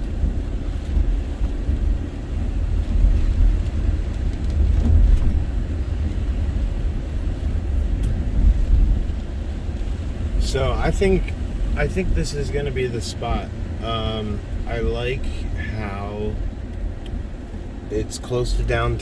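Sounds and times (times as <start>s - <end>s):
van road and engine rumble: 0.0s - 19.0s.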